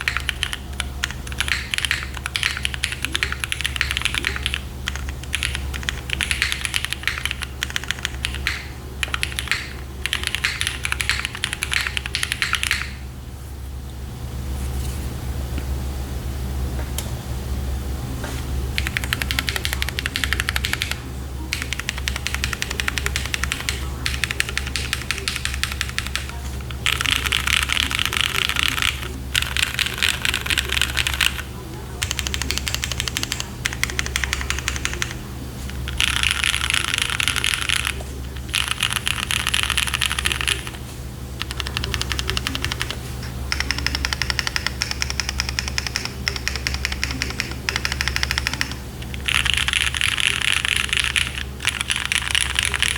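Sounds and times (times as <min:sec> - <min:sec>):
fast keyboard typing: 0:00.0 - 0:13.0, 0:18.7 - 0:52.9
steady low hum: 0:00.0 - 0:52.9.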